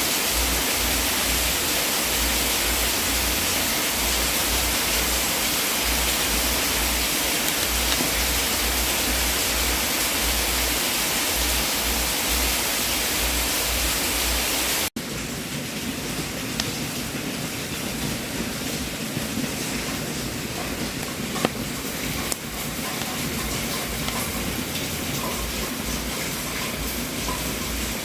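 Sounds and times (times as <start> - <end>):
fire burning in fireplace: 0.2 - 12.2, 14.8 - 28.0.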